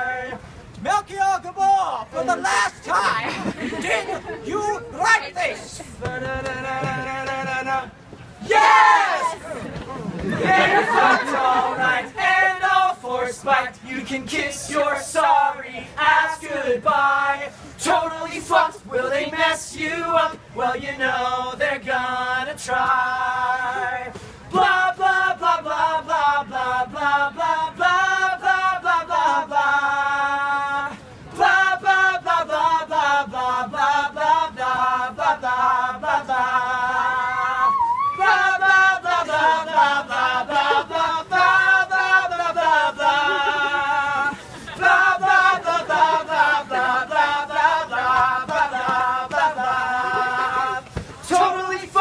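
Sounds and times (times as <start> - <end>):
ensemble singing in chorus: 0.0 - 0.7, 5.4 - 52.0.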